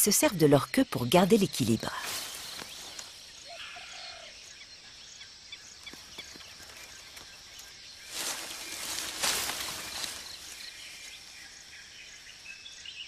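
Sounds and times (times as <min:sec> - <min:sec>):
high insect hum: 0:00.0 - 0:13.0
faint bird chirps: 0:02.0 - 0:13.0.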